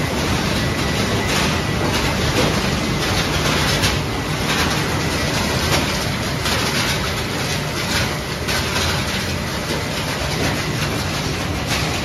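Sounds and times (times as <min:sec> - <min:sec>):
machinery running: 0:00.0 - 0:12.0.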